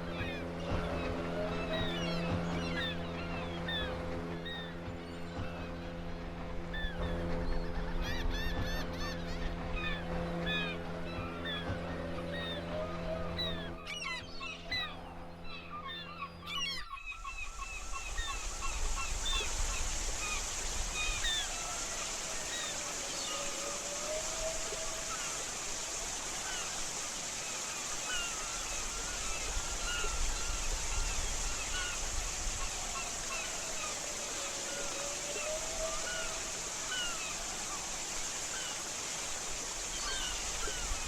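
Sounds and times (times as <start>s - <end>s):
humming drone with trills: 0.0s - 41.0s.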